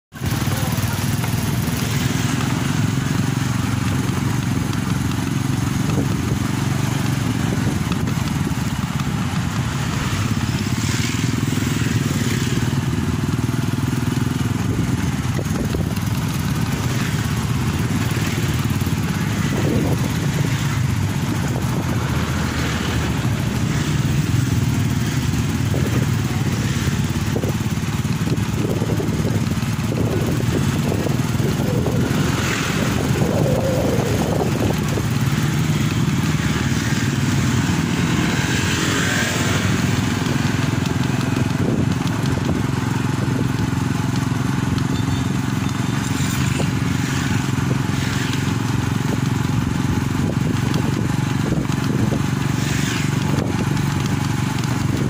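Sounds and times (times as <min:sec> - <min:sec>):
small motorcycle engine running: 0:00.1 - 0:55.0.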